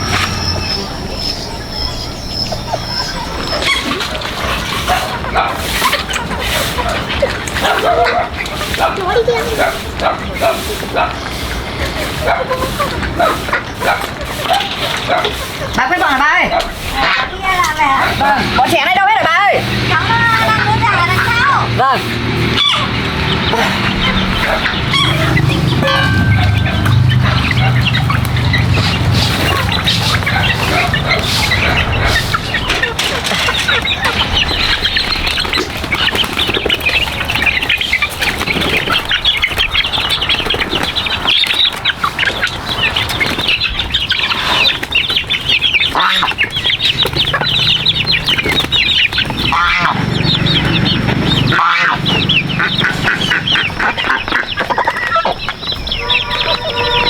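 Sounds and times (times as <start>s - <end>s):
chickens clucking and peeping: 0.0s - 57.0s.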